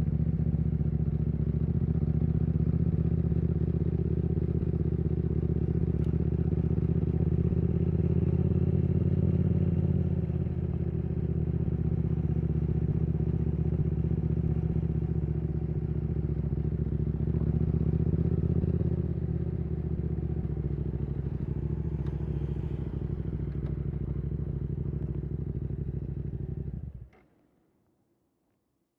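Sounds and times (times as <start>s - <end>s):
motorcycle engine running steadily: 0.0s - 27.2s.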